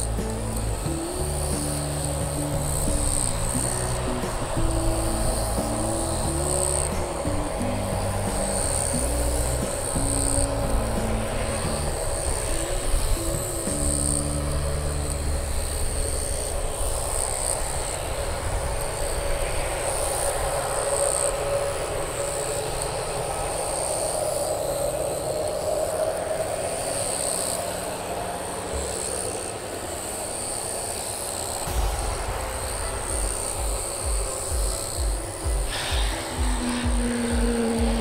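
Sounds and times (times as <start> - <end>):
distant jet engines rumbling: 0.0 - 38.0
insects buzzing: 0.0 - 38.0.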